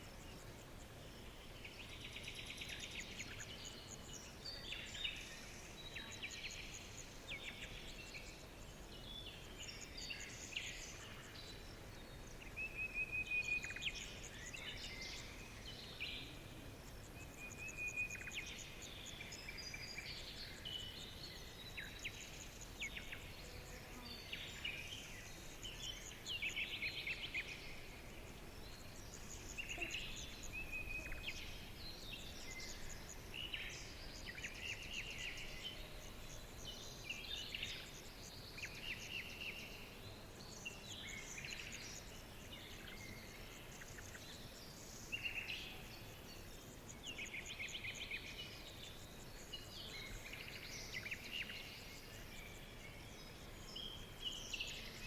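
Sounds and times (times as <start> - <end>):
low background hiss: 0.0 - 55.0
songbirds chirping and trilling: 0.0 - 55.0.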